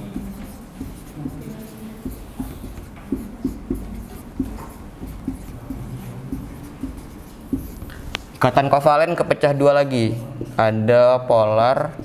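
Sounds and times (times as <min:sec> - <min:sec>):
marker writing on whiteboard: 0:00.0 - 0:12.0.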